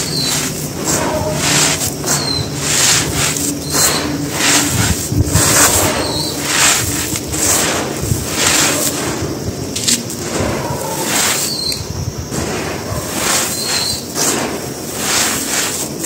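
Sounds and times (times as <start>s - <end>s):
gritty stone sifting through hands: 0.0s - 16.0s.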